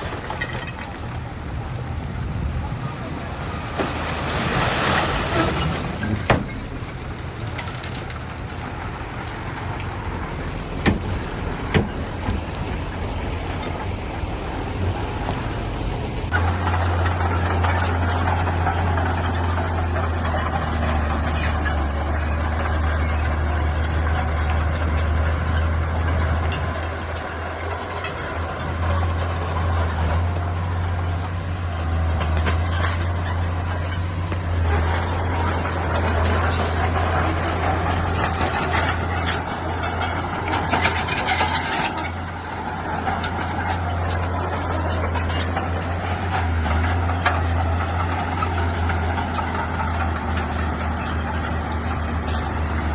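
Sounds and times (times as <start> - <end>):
bulldozer diesel engine droning: 0.0 - 52.9
crawler tracks squealing and clanking: 0.0 - 52.9.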